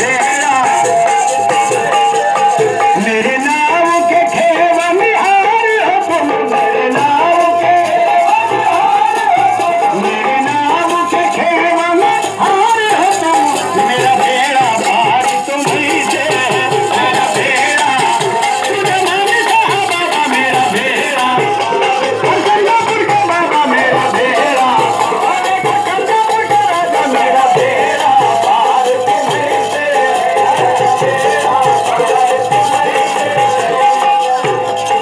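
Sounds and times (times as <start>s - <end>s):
man singing into microphone: 0.0s - 35.0s
rattling percussion: 0.0s - 35.0s.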